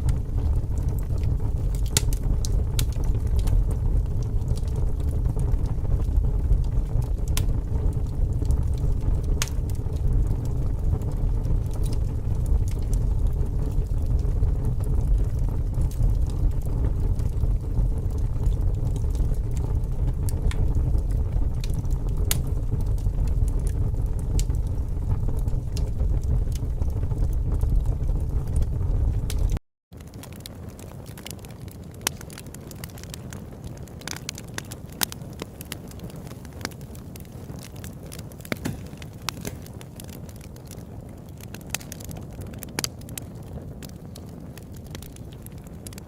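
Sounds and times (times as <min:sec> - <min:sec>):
fire crackling and popping: 0:00.0 - 0:46.0.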